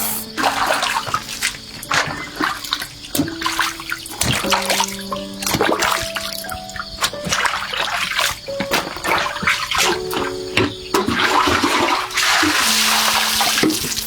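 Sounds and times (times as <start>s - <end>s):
background music with held notes: 0.0s - 14.0s
water running and splashing: 0.0s - 14.0s.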